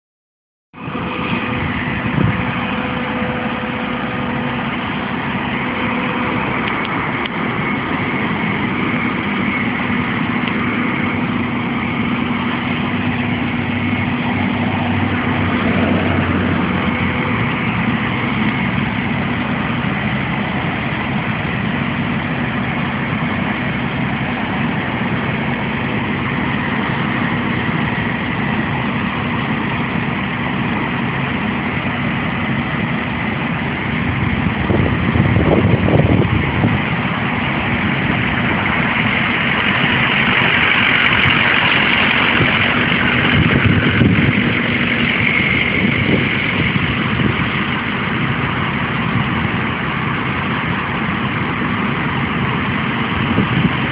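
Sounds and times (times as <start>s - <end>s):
truck engine idling with whine: 0.8s - 53.9s.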